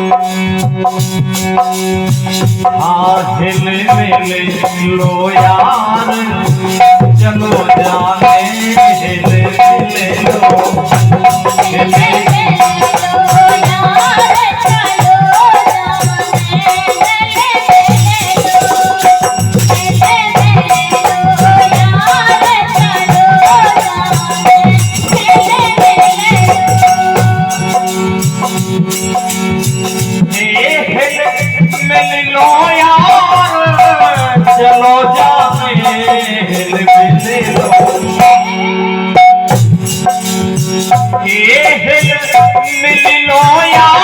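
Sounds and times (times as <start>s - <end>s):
hand drum rhythm: 0.0s - 44.0s.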